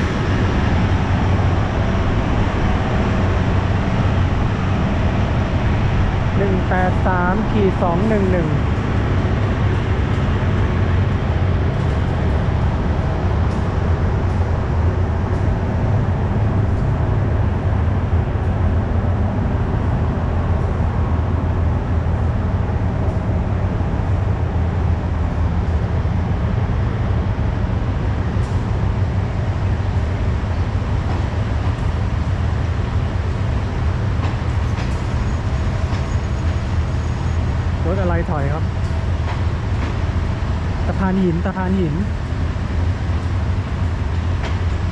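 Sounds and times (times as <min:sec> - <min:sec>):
diesel railcar engine idling: 0:00.0 - 0:44.9.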